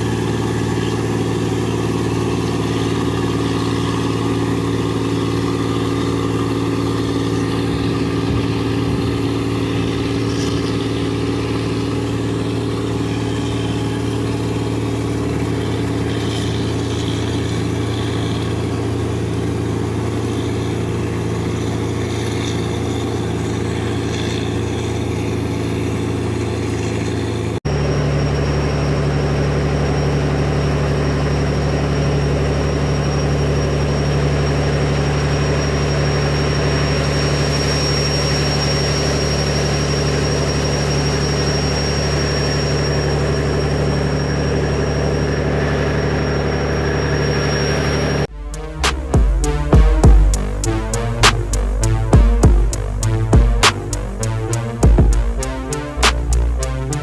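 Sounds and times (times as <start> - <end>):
boat engine droning: 0.0 - 57.0
lower engine drone: 0.0 - 57.0.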